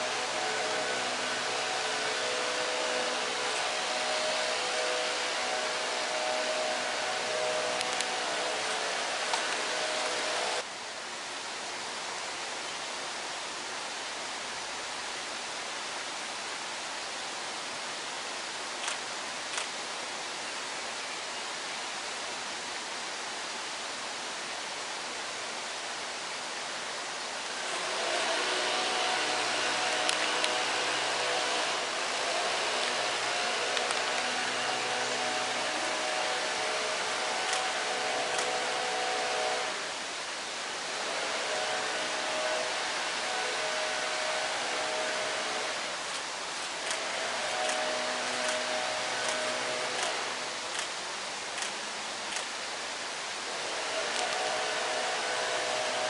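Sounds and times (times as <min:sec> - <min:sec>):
faint hum tones: 0:00.0 - 0:56.0
rain falling: 0:00.0 - 0:56.0
steady background hiss: 0:00.0 - 0:56.0.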